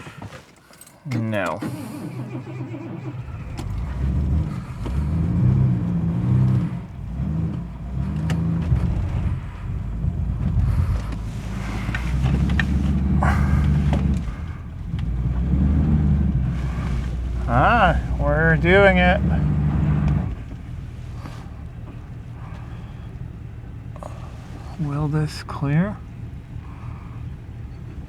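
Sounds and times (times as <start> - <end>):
car engine revving: 1.1 - 28.0.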